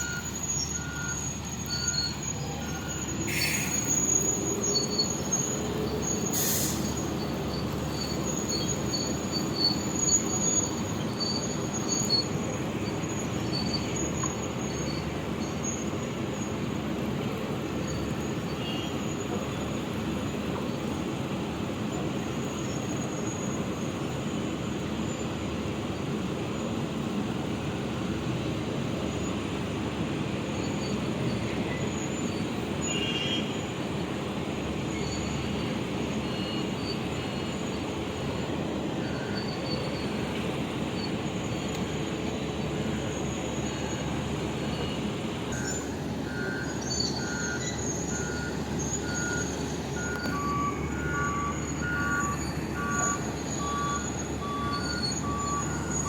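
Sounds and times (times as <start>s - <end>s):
excavator diesel engine and hydraulics: 0.0s - 56.0s.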